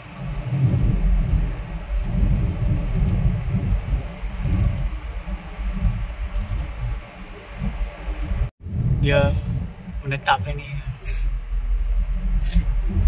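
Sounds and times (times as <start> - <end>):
car rumbling: 0.0 - 13.0.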